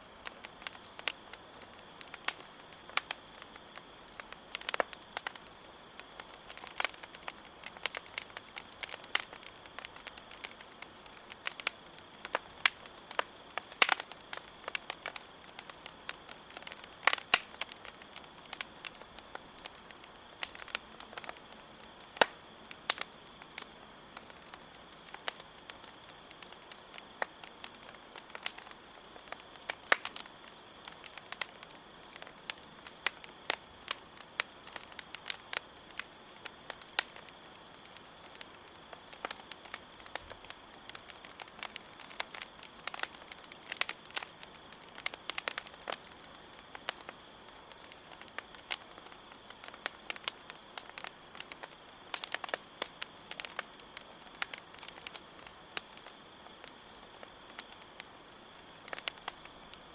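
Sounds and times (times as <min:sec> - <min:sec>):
campfire crackling and popping: 0:00.0 - 0:59.9
cricket trill: 0:00.0 - 0:59.9.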